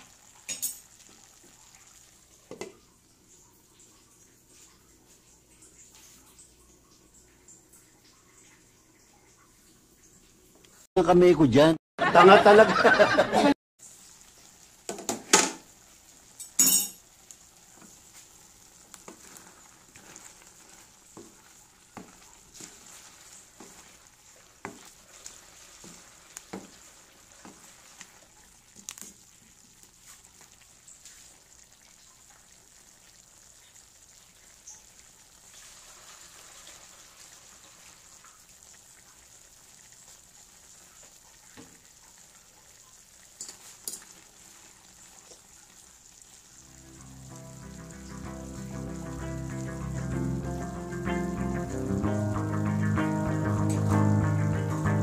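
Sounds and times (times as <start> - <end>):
stew sizzling in a metal pan: 0.0 - 6.5, 10.6 - 55.0.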